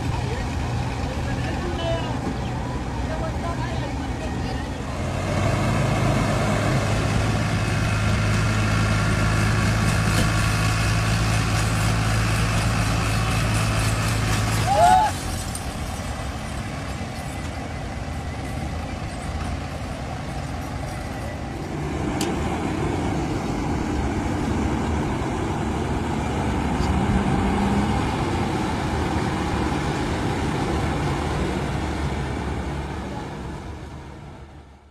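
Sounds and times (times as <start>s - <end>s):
diesel engines droning under load: 0.0s - 34.9s.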